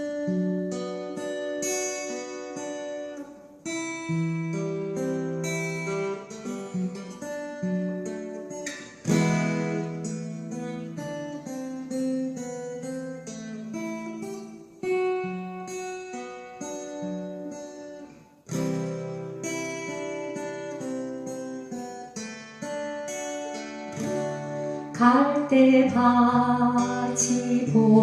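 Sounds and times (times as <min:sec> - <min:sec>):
acoustic guitar ballad: 0:00.0 - 0:28.0.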